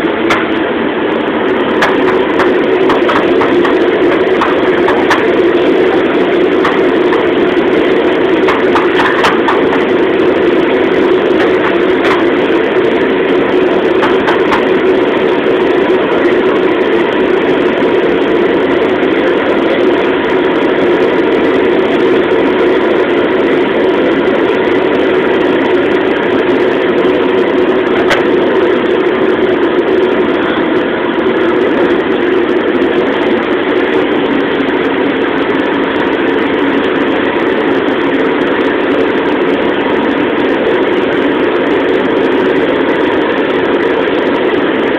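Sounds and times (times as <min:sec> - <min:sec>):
gas burner roaring: 0:00.0 - 0:44.9.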